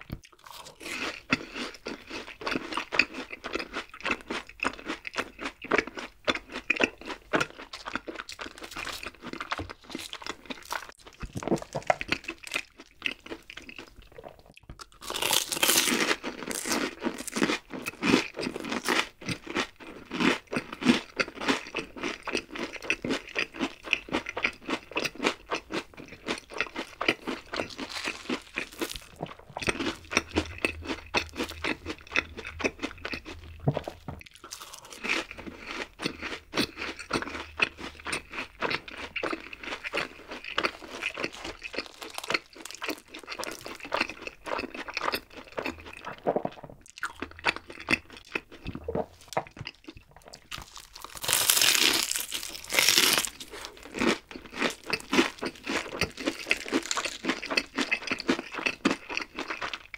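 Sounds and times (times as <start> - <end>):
crunching crisp fried food: 0.0 - 59.9.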